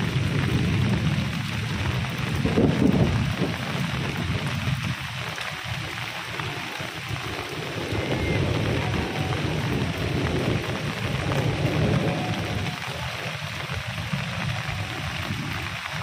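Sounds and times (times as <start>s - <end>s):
heavy rain: 0.0s - 16.0s
thunder rumble: 0.0s - 16.0s.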